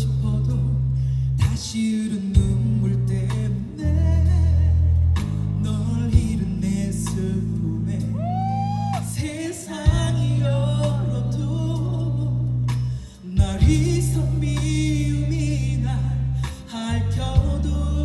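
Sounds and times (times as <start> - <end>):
held bass notes: 0.0 - 1.6, 2.4 - 18.0
live band playing a ballad: 0.0 - 18.0.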